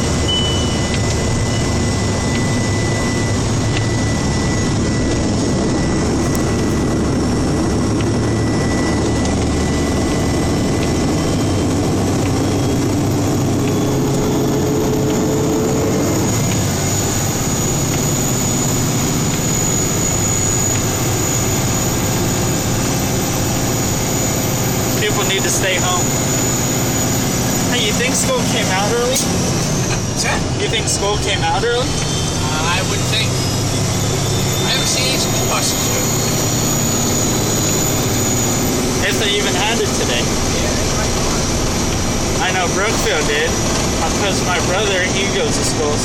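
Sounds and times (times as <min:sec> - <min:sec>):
road and plow noise: 0:00.0 - 0:46.0
truck engine running: 0:00.0 - 0:46.0.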